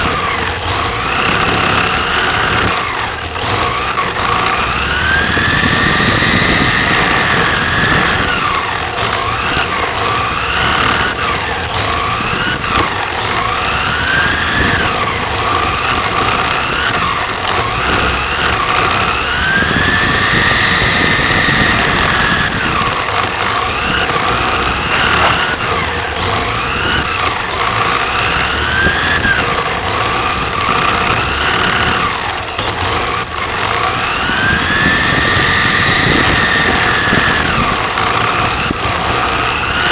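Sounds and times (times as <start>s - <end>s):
electric rc car motor whine: 0.0s - 39.9s.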